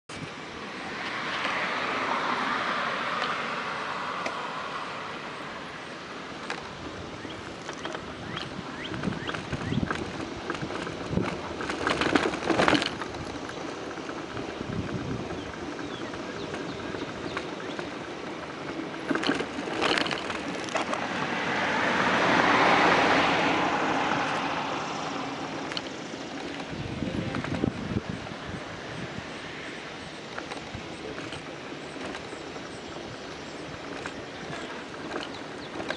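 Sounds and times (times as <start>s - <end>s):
wind rushing over microphone: 0.1s - 35.9s
vehicle passing by: 0.2s - 35.9s.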